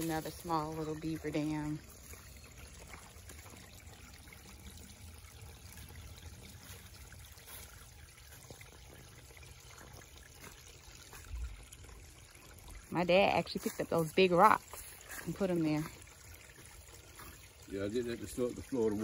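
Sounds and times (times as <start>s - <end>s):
creek water trickling: 0.0s - 19.0s.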